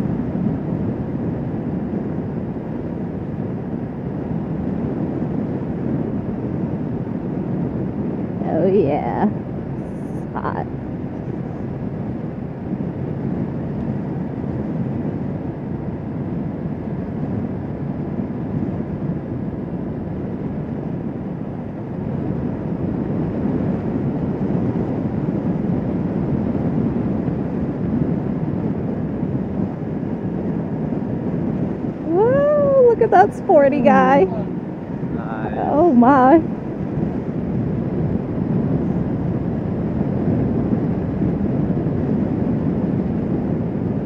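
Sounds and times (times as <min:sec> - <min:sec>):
motorcycle riding at speed: 0:00.0 - 0:44.0
wind rushing: 0:00.0 - 0:44.0.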